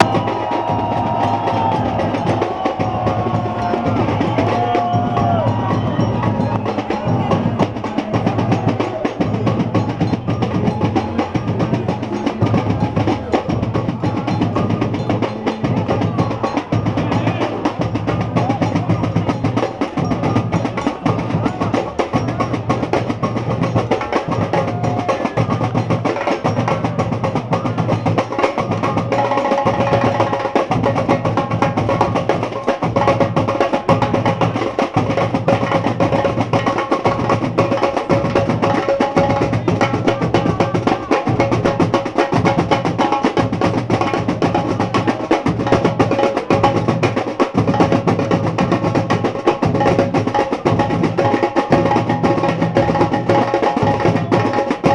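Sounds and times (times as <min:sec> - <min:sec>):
bass drums: 0:00.0 - 0:54.9
hand percussion: 0:00.0 - 0:54.9
snare drums: 0:00.0 - 0:54.9.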